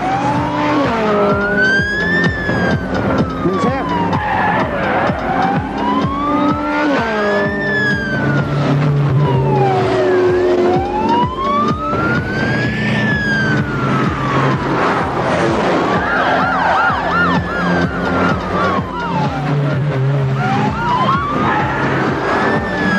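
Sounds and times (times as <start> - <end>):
police siren wailing: 0.0 - 22.9
vehicle engines running: 0.0 - 22.9.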